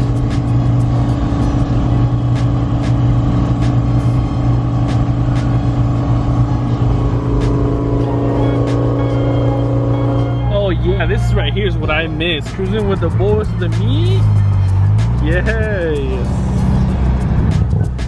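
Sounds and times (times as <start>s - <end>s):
car engine and road drone: 0.0s - 18.0s.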